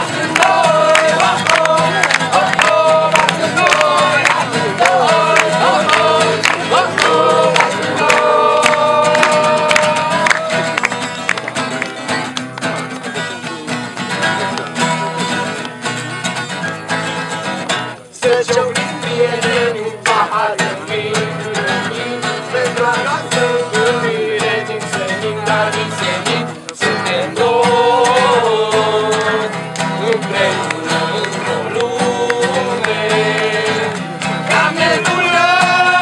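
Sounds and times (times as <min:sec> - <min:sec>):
group of people singing: 0:00.0 - 0:11.3, 0:18.1 - 0:36.0
strummed acoustic guitars: 0:00.0 - 0:36.0.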